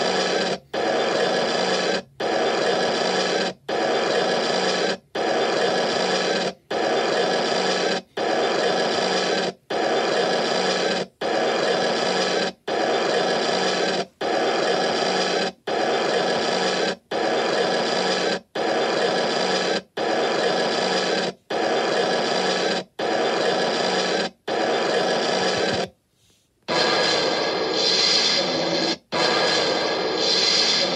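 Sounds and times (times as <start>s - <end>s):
harsh noisy sound effect: 0.0s - 25.9s, 26.7s - 30.9s.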